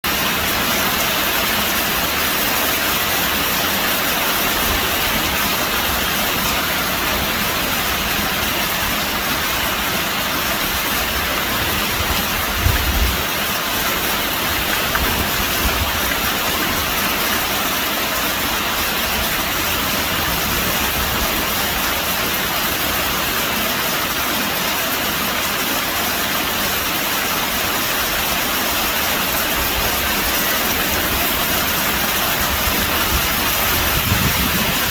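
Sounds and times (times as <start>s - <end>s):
very heavy rain pouring: 0.0s - 34.9s.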